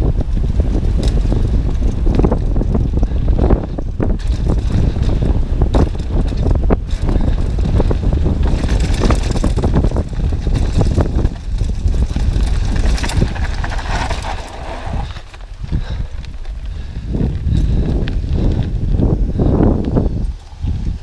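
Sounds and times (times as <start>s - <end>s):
bike rattles and knocks: 0.0s - 21.0s
bike tyres on gravel: 0.0s - 21.0s
wind buffeting microphone: 0.0s - 21.0s.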